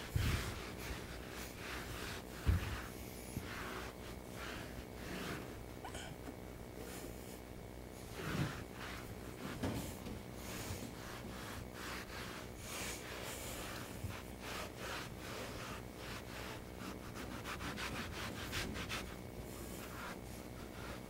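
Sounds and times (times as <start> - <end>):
hands rubbing carpet padding: 0.0 - 5.7, 6.8 - 21.0
faint steady hum: 0.0 - 21.0.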